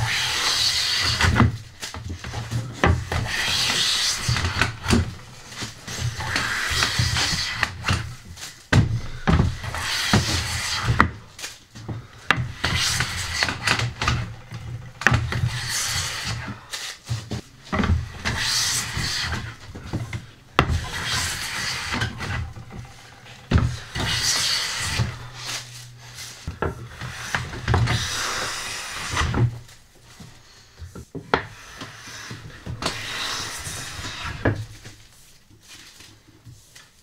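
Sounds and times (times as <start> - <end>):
hand plane shaving wood: 0.0 - 8.3, 8.9 - 11.4, 12.1 - 29.7, 31.4 - 34.9.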